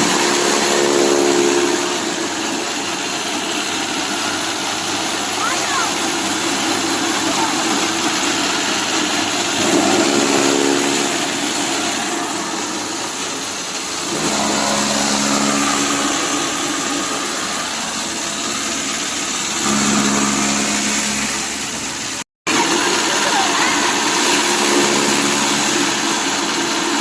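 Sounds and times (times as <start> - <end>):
chaff cutter motor hum: 0.0 - 27.0.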